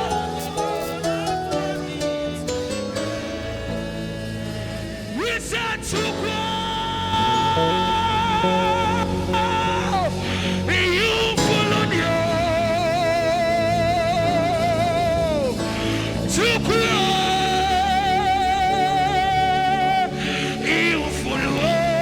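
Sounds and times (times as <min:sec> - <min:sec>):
gospel worship music: 0:00.0 - 0:22.0.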